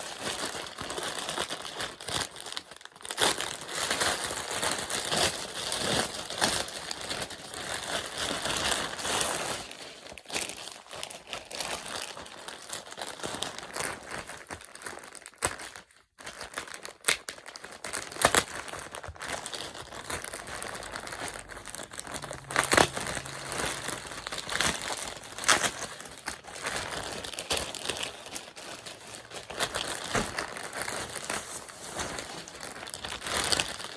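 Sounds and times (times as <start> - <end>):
packaging crinkling and rustling: 0.0 - 33.9.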